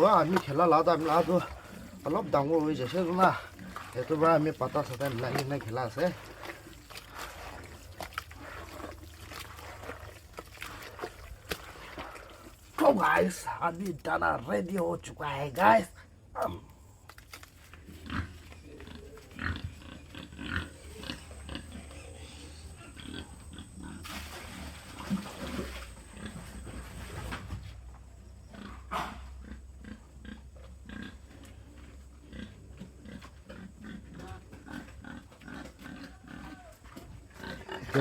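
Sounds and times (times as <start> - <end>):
pigs grunting: 0.0 - 12.6, 17.8 - 27.4, 28.4 - 38.0.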